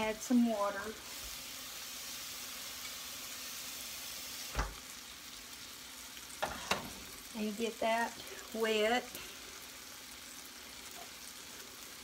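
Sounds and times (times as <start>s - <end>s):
chicken sizzling in a skillet: 0.0s - 12.0s.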